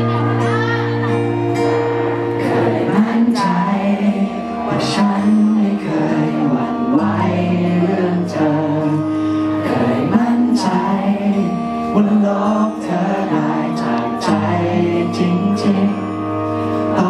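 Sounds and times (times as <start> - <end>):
instrumental backing music: 0.0 - 17.0
man singing into microphone: 2.4 - 17.0.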